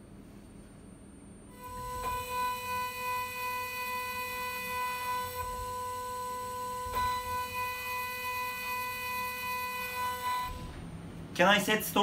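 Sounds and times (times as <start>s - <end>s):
milling spindle whining: 1.6s - 11.3s.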